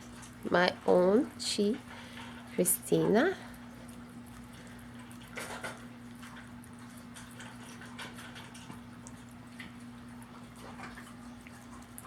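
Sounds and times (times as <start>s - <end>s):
steady low hum: 0.0s - 12.0s
dog chewing and crunching: 1.9s - 12.0s.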